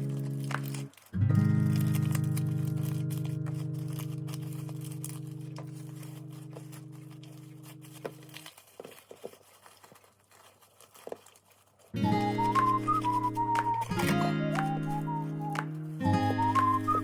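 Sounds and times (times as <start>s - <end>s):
faint crinkling: 0.0s - 17.0s.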